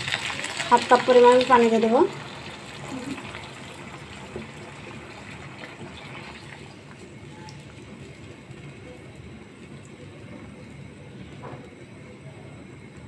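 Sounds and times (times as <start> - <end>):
gravy simmering: 0.0 - 12.1.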